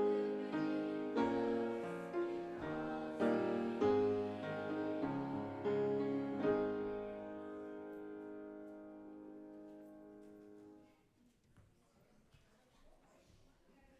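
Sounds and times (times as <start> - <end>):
faint room noise: 0.0 - 13.9.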